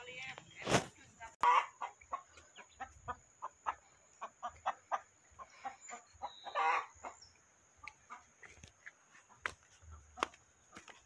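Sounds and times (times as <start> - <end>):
chickens clucking: 1.4 - 11.0.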